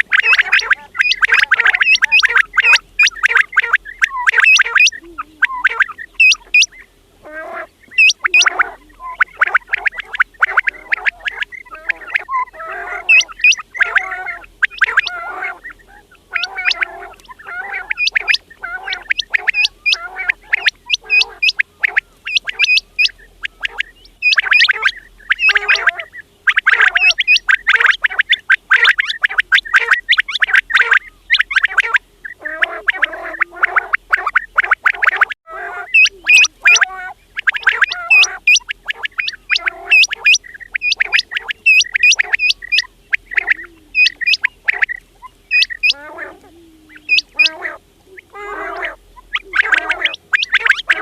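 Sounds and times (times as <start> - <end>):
quails chirping: 0.0 - 51.0.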